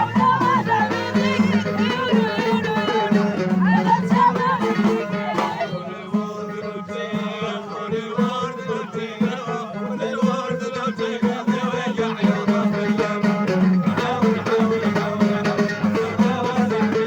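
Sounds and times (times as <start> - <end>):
percussive beat: 0.0 - 17.0
person singing: 0.0 - 17.0.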